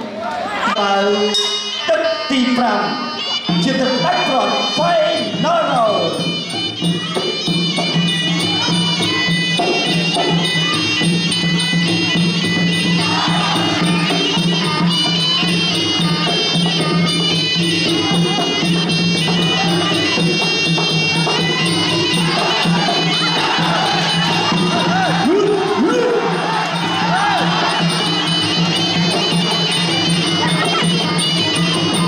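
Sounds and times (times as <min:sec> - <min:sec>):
percussion: 0:00.0 - 0:32.0
shrill reed pipe melody: 0:00.8 - 0:32.0.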